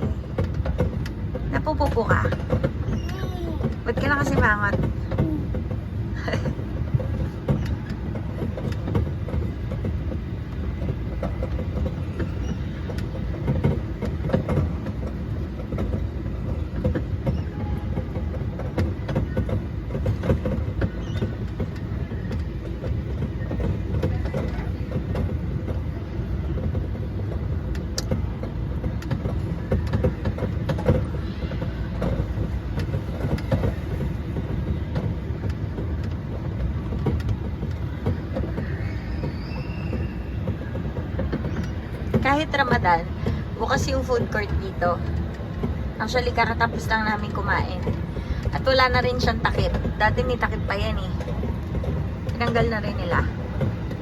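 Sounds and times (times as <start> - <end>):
ride-on train rumbling: 0.0 - 54.0
small clicks and rattles: 0.0 - 54.0.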